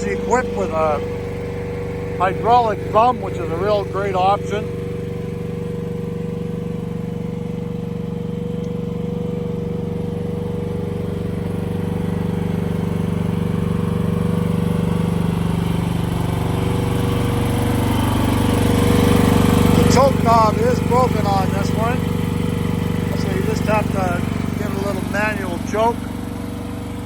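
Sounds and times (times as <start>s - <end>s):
excavator engine idling: 0.0s - 27.0s.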